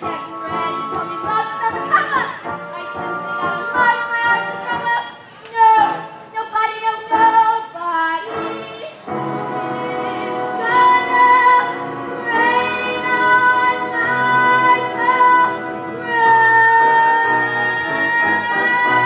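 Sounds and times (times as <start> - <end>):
instrumental backing: 0.0 - 19.0.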